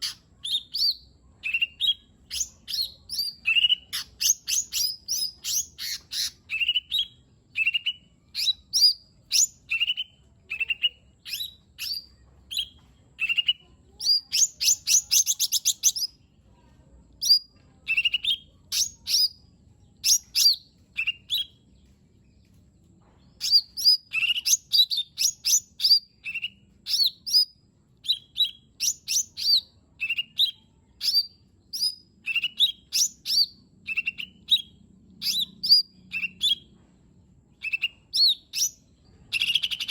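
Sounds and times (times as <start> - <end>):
bird singing whistled notes: 0.0 - 16.2, 17.2 - 19.4, 20.0 - 21.6, 23.4 - 36.7, 37.6 - 39.9
bird trill: 0.0 - 16.2, 17.2 - 19.4, 20.0 - 21.6, 23.4 - 36.8, 37.6 - 39.9.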